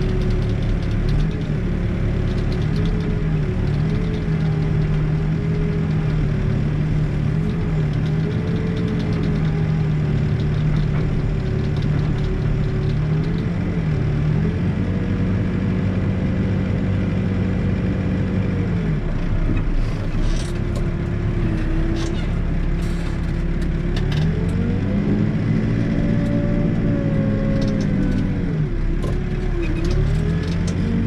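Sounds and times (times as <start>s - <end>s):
backhoe engine running: 0.0s - 31.0s.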